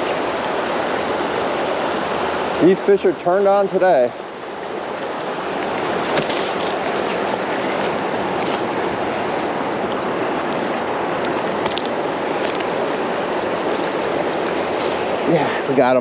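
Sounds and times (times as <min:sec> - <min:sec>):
flowing creek water: 0:00.0 - 0:16.0.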